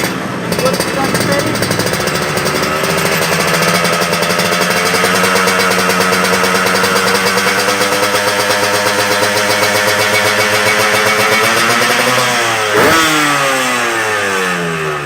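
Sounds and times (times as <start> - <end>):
two-stroke motorcycle engine running: 0.0 - 15.0.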